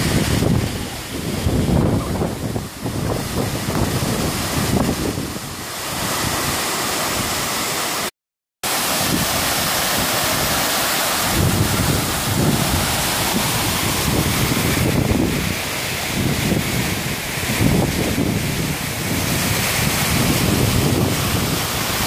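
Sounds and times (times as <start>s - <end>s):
wind buffeting the microphone: 0.0s - 7.6s, 9.0s - 22.0s
waterfall rushing into a pool: 0.0s - 22.0s.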